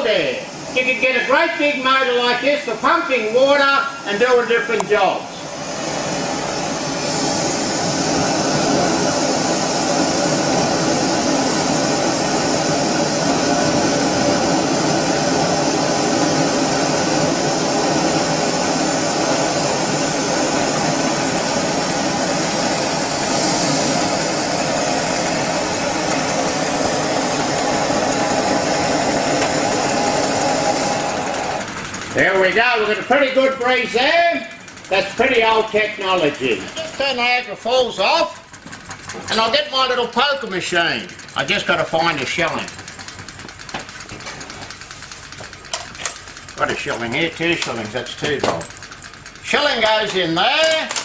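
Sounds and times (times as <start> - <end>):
small engine running: 3.6 - 51.0.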